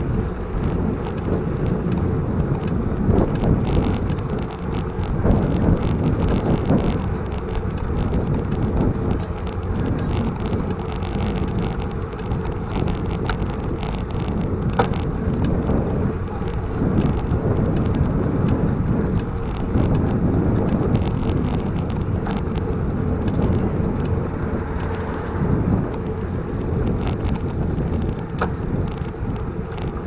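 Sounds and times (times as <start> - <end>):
bicycle clicks and rattles: 0.0 - 30.0
tyre and road noise: 0.0 - 30.0
wind over microphone: 0.0 - 30.0.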